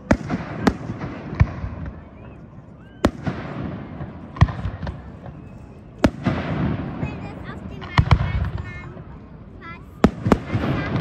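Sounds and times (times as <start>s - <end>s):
distant firework bangs with echo: 0.0s - 9.2s, 10.0s - 11.0s.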